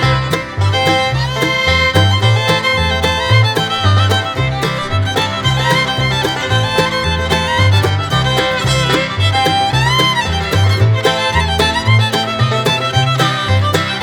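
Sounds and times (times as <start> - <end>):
fiddle: 0.0 - 14.0
steady bass beat: 0.0 - 14.0
upbeat bluegrass music: 0.0 - 14.0.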